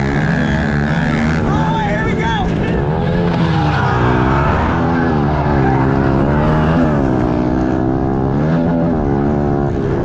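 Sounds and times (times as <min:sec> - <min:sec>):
pit bike engines revving: 0:00.0 - 0:10.0.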